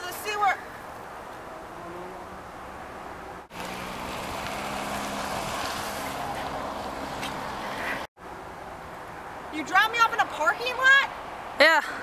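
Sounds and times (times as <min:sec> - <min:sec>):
outdoor wind noise: 0:00.0 - 0:11.7
car engines humming: 0:00.0 - 0:12.0
road traffic: 0:00.0 - 0:12.0.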